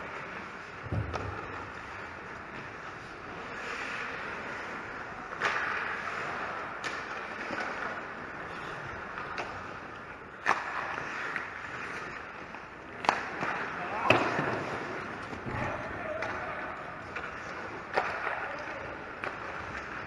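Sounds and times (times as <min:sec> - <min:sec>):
hockey sticks and puck clacking: 0:00.0 - 0:20.0
skates scraping on ice: 0:00.0 - 0:20.0.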